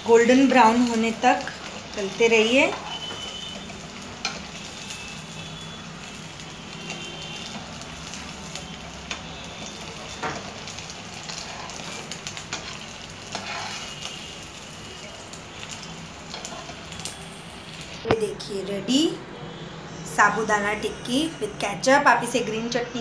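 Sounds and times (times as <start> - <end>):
patties sizzling in hot oil: 0.0 - 19.2.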